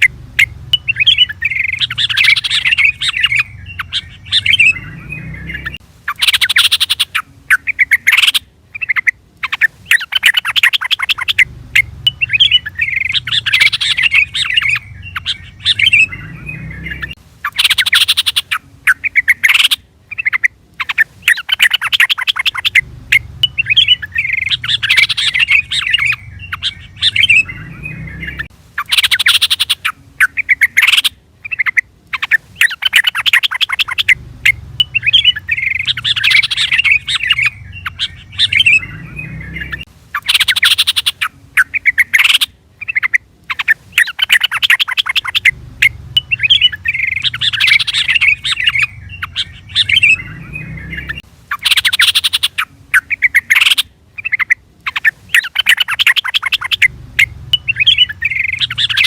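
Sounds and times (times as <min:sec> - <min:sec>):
bird bubbling chatter calls: 0:00.0 - 0:59.0.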